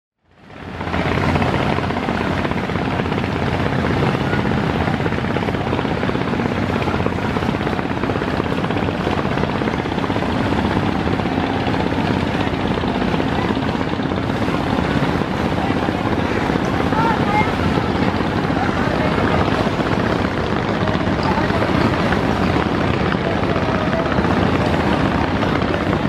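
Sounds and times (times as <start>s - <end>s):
continuous rush of noise: 0.2s - 26.0s
boat diesel engine chugging: 0.4s - 26.0s.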